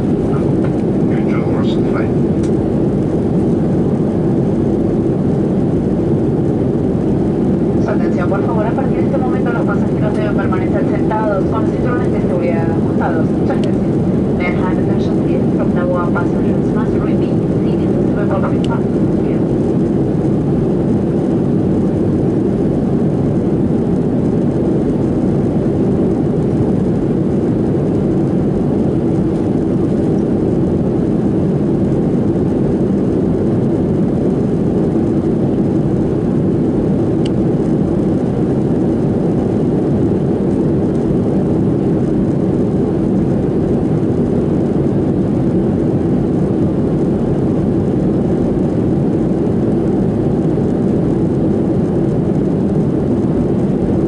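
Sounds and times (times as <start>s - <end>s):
jet engines: 0.0s - 54.0s
rush of airflow in cabin: 0.0s - 54.0s.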